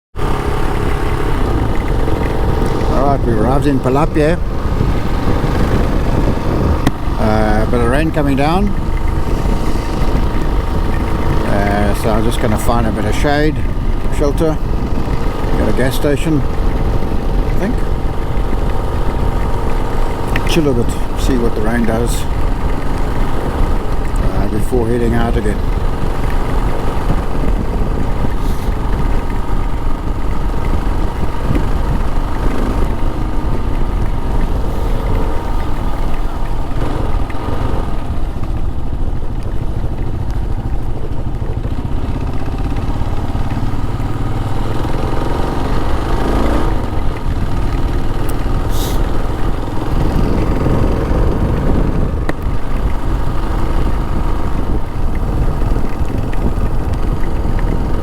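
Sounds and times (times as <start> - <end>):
motorcycle engine running: 0.0 - 58.0
wind rumble on microphone: 0.1 - 58.0.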